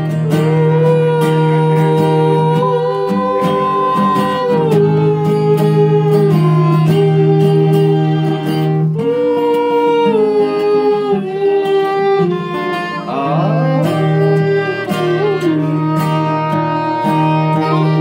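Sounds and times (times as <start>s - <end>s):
bowed fiddle: 0.0s - 18.0s
picked mandolin: 0.0s - 18.0s
strummed acoustic guitars: 0.0s - 18.0s.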